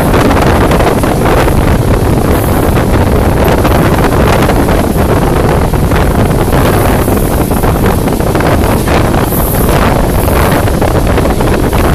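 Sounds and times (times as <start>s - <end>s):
moving train noise: 0.0s - 11.9s
wind on microphone: 0.0s - 11.9s.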